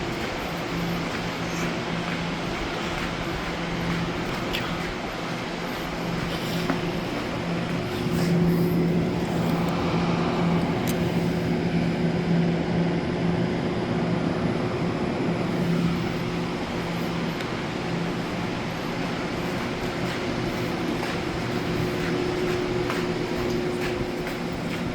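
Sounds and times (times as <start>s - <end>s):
electric train rumbling: 0.0s - 24.9s
wavering electrical hum: 0.0s - 24.9s.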